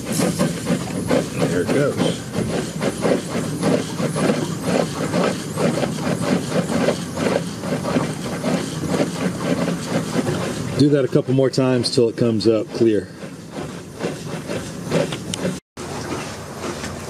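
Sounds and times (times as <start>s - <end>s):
pulsing suction pump: 0.0s - 17.0s.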